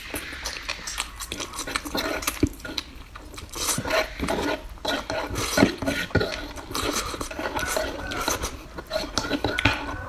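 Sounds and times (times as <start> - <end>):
chewing and mouth noises: 0.0 - 10.0
clicks and crackles: 0.0 - 10.0.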